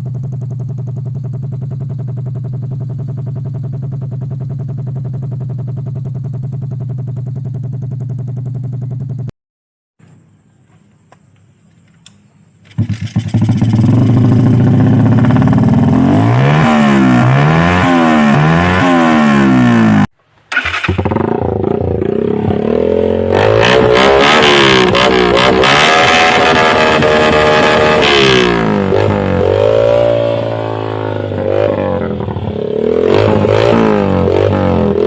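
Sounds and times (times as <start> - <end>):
motorcycle engine revving: 0.0 - 9.3, 12.6 - 35.0.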